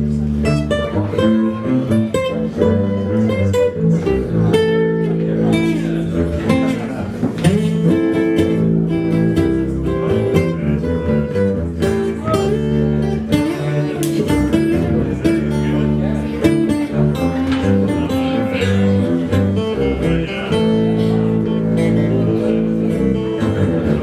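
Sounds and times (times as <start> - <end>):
acoustic guitar strummed and picked: 0.0 - 24.0
upright double bass: 0.0 - 24.0.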